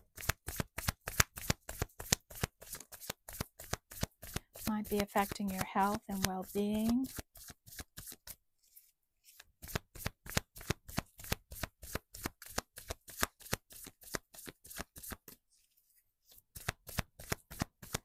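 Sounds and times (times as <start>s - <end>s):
cards being shuffled: 0.1s - 18.0s.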